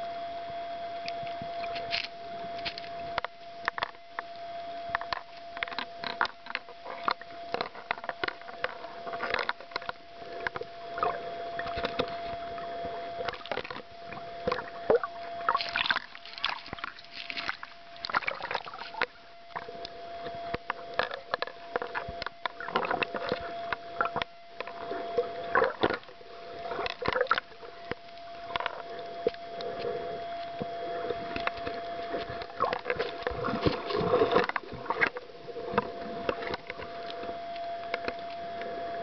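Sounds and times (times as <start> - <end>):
steady hum: 0.0 - 39.0
underwater clicks and crackles: 0.0 - 39.0.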